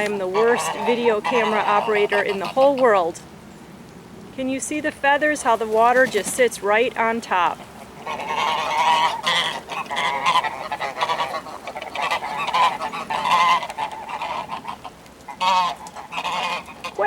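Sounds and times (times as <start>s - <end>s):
geese honking: 0.0s - 3.2s, 4.4s - 17.0s.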